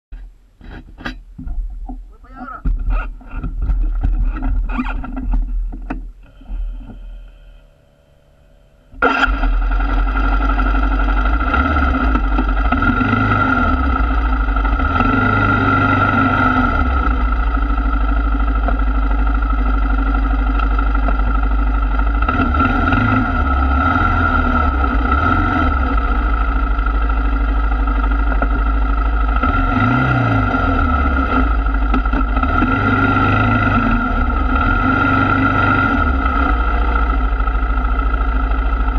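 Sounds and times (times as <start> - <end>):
atv engine running: 1.4 - 38.9.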